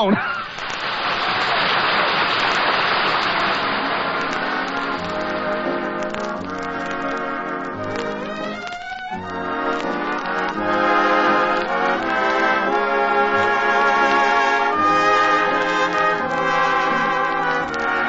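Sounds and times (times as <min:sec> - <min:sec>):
brass-led dance orchestra: 0:03.4 - 0:18.0.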